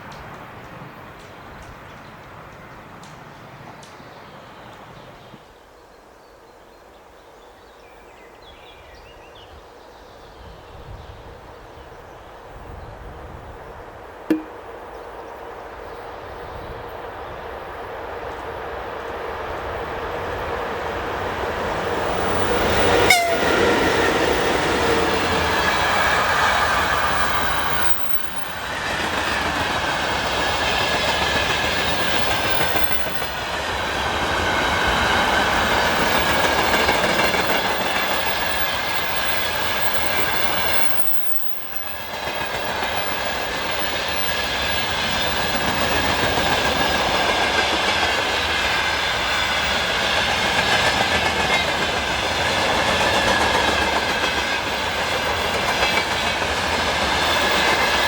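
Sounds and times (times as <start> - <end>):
electric train passing: 11.4 - 58.0.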